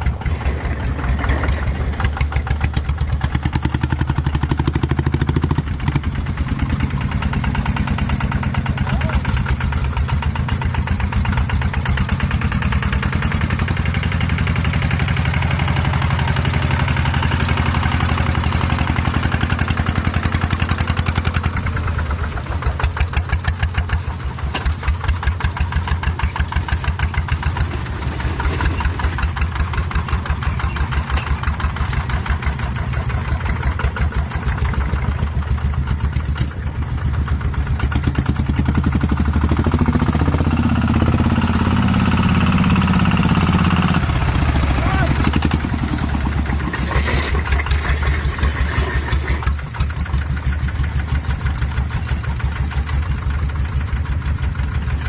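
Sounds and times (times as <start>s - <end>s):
engine running unevenly: 0.0s - 55.0s.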